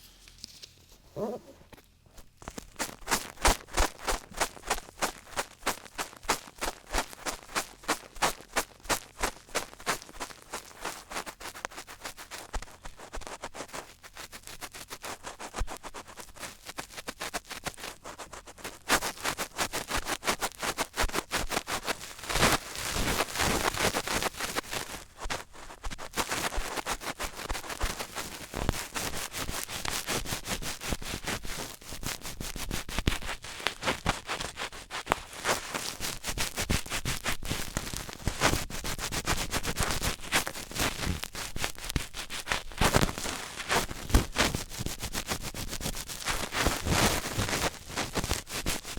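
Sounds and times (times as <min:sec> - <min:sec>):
scratching and rubbing: 0:00.0 - 0:48.9.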